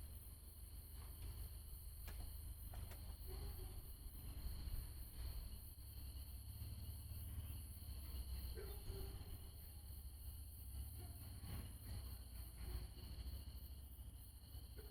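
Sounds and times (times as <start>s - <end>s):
night insects chirping: 0.0s - 14.9s.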